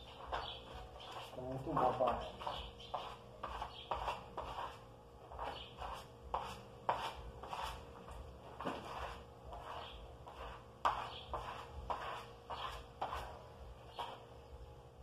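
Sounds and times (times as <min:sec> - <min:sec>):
spatula scraping plaster wall: 0:00.0 - 0:14.4.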